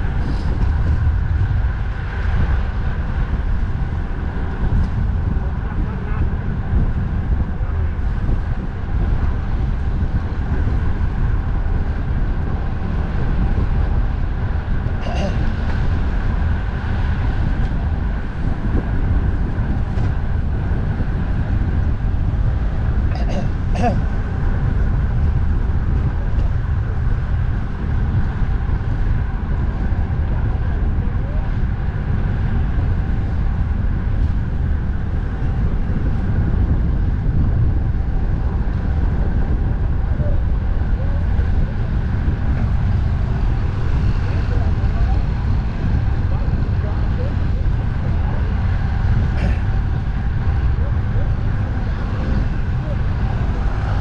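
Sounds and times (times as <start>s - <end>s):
road traffic: 0.0s - 54.0s
wind rumble on microphone: 0.0s - 54.0s.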